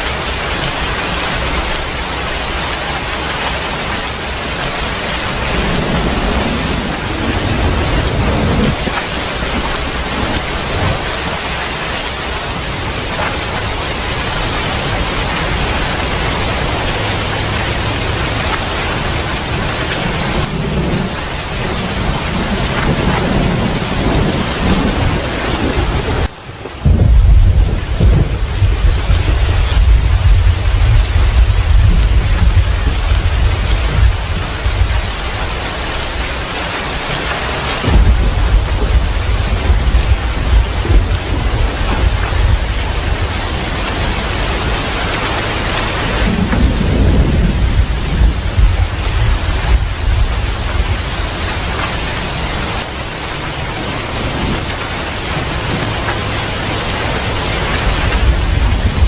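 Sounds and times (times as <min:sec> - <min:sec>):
heavy rain pouring: 0:00.0 - 0:59.0
thunder rumbling: 0:00.0 - 0:59.0.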